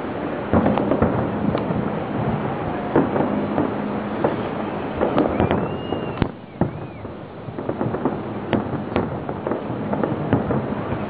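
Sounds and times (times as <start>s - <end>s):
fireworks bangs: 0.0s - 11.0s
fireworks crackle: 0.0s - 11.0s
fireworks whistles: 0.0s - 11.0s.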